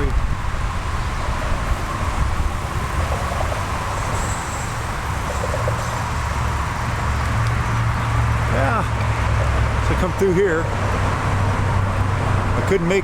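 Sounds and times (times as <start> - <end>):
road and tyre noise: 0.0 - 13.0
wind rushing over microphone: 0.0 - 13.0.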